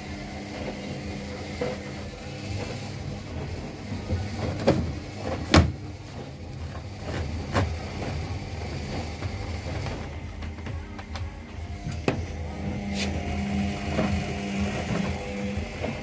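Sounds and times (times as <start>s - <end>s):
washing machine motor hum: 0.0s - 16.0s
washing machine drum thuds: 2.5s - 16.0s.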